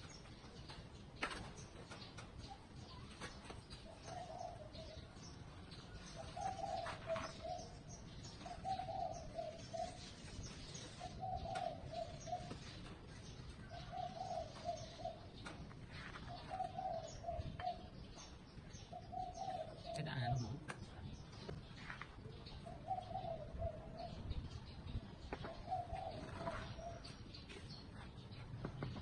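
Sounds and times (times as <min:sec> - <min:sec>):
dove cooing: 0:01.3 - 0:29.0.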